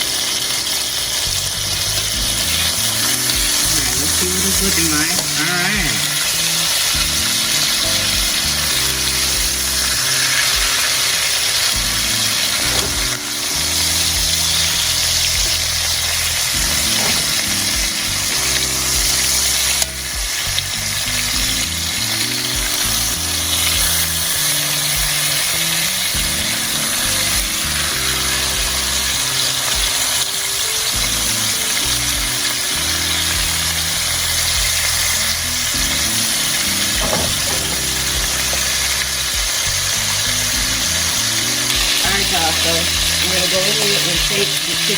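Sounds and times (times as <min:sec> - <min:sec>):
background music with low notes: 0:00.0 - 0:44.9
chicken sizzling in oil: 0:00.0 - 0:44.9.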